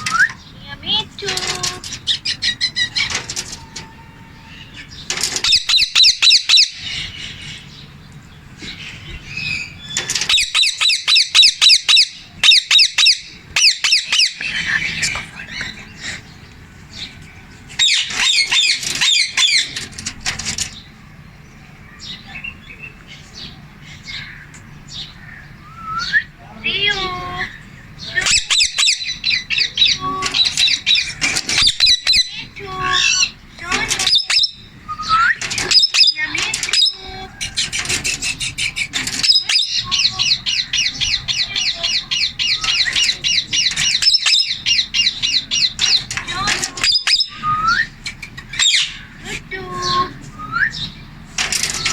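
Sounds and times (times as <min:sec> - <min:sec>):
parakeet chattering: 0:00.0 - 0:21.0, 0:21.9 - 0:51.9.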